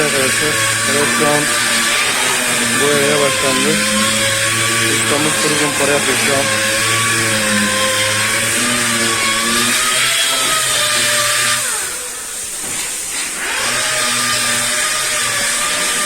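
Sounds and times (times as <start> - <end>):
power sander whining: 0.0 - 16.0.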